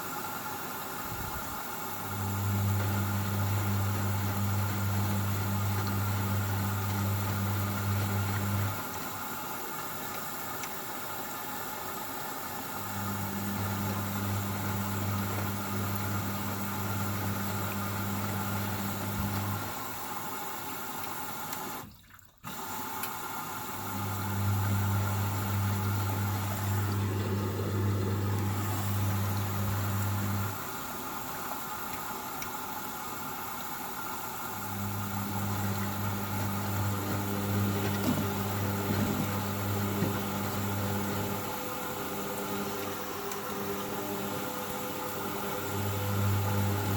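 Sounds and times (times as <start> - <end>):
water running in washing machine: 0.0 - 46.9.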